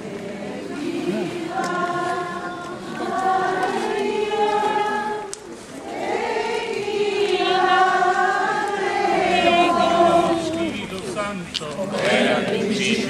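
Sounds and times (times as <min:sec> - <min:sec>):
group singing a slow hymn: 0:00.0 - 0:11.2, 0:11.8 - 0:13.0.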